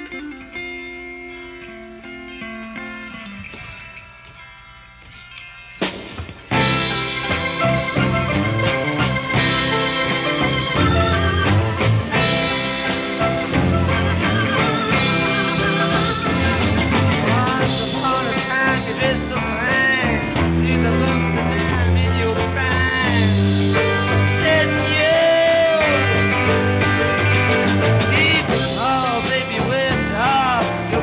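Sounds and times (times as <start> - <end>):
rock music: 0.0 - 31.0
sliding bending lead guitar notes: 0.0 - 31.0
steady bass line: 0.0 - 31.0.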